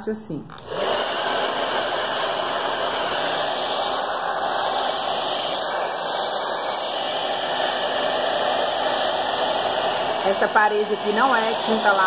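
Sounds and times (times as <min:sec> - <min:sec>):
hair dryer blowing: 0:00.5 - 0:12.0.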